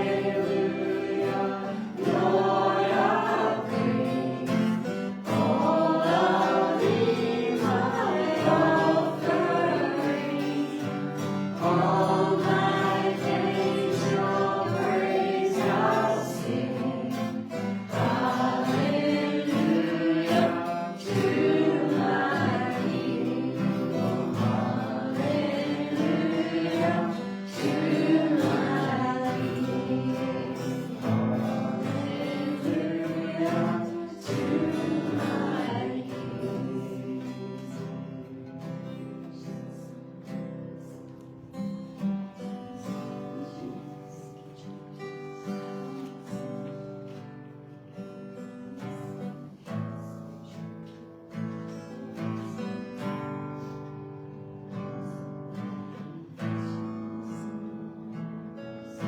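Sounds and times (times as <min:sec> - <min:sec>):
acoustic guitar strumming chords: 0:00.0 - 0:59.0
voices singing worship song: 0:00.0 - 0:59.0.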